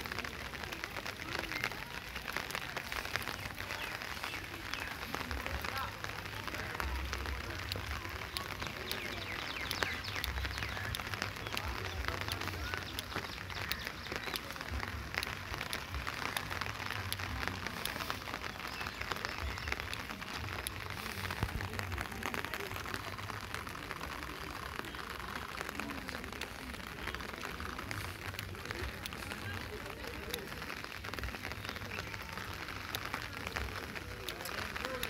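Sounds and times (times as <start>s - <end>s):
rain on paving and trees: 0.0s - 35.0s
raindrops ticking: 0.0s - 35.0s.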